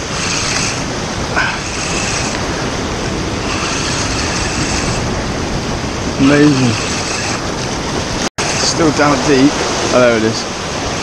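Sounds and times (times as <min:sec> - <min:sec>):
surf washing over rocks: 0:00.0 - 0:11.0.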